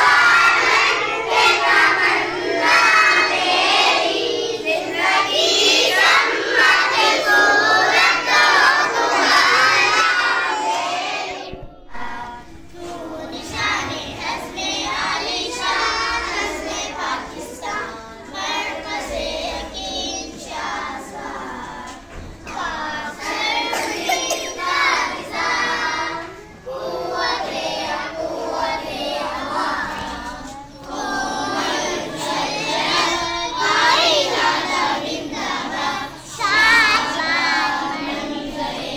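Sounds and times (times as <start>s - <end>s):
children singing in unison: 0.0s - 38.9s.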